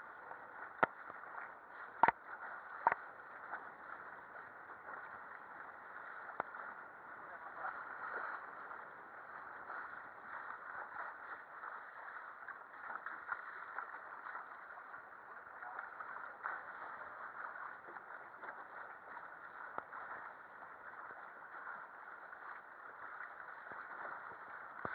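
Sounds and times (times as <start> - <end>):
water rushing: 0.0 - 24.9
water splashing against boat hull: 0.0 - 24.9.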